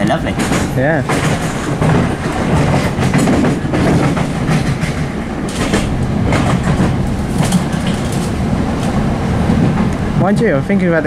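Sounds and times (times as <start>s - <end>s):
wheels clicking over track: 0.0s - 9.0s
train wheels rumbling on rails: 0.0s - 11.0s.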